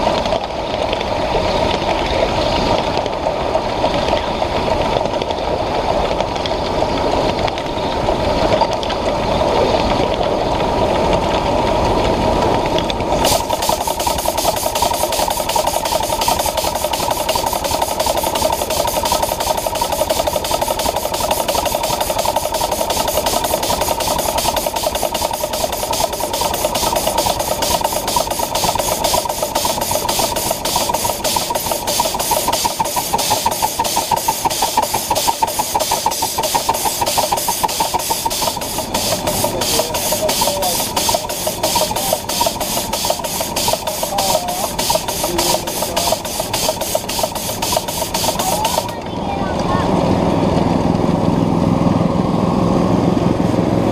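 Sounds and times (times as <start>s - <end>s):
steam locomotive chuffing: 0.0s - 52.0s
wheels rumbling on track: 0.0s - 53.9s.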